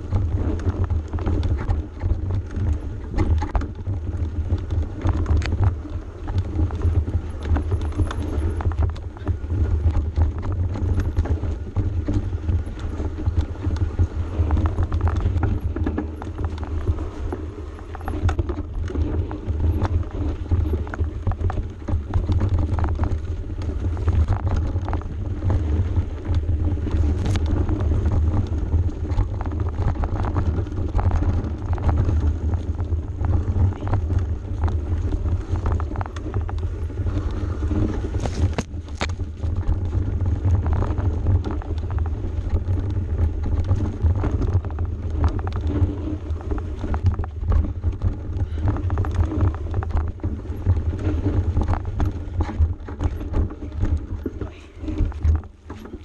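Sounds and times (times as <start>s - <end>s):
bike knocks and rattles: 0.0s - 56.0s
wind rumble on microphone: 0.0s - 56.0s.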